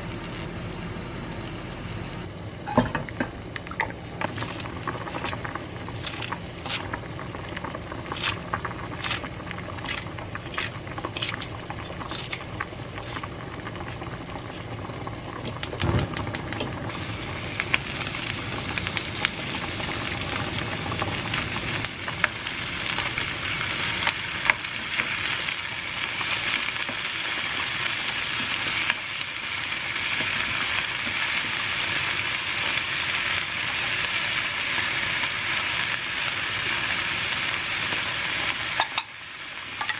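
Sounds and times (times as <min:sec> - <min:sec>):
oil sizzling in a wok: 0:00.0 - 0:39.9.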